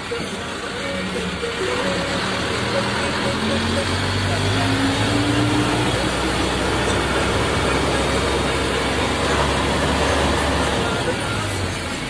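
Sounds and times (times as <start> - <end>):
road noise rush: 0.0 - 12.0
vehicle engine drone: 0.0 - 12.0.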